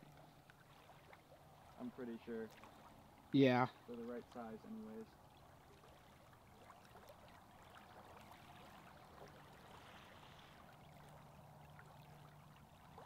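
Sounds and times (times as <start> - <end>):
lake water lapping: 0.0 - 13.0.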